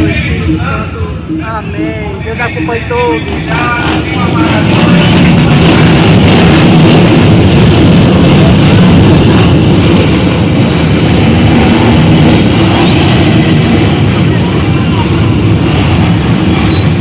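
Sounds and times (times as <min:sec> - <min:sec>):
many engines revving: 0:00.0 - 0:17.0.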